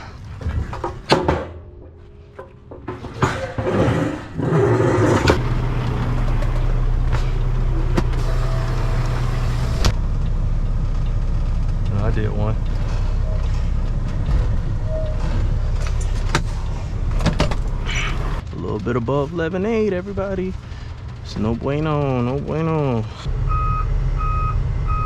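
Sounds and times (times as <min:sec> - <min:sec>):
truck diesel engine running: 0:04.2 - 0:25.0.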